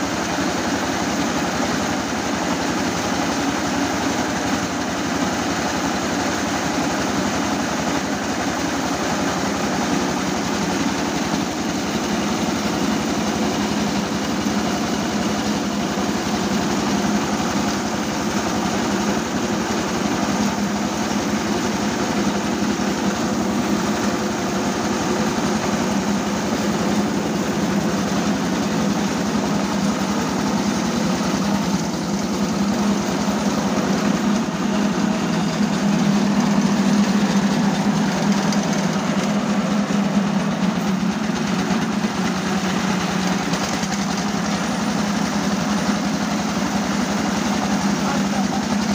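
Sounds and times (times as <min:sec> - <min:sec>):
rice mill engine running: 0:00.0 - 0:48.9.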